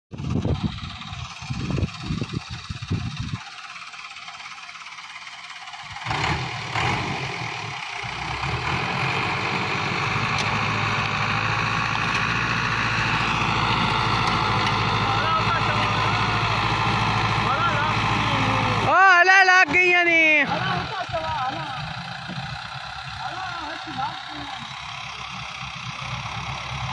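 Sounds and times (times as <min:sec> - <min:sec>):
tractor diesel engine under load: 0:00.1 - 0:26.9.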